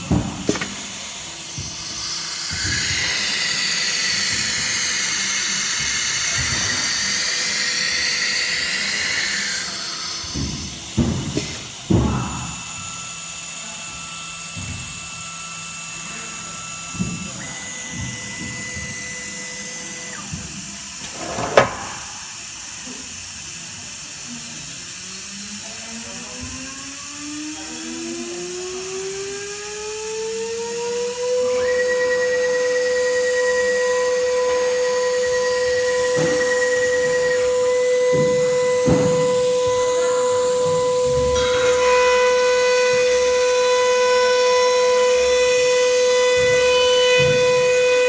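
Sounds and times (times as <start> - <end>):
router spindle motor whining: 0.0 - 48.0.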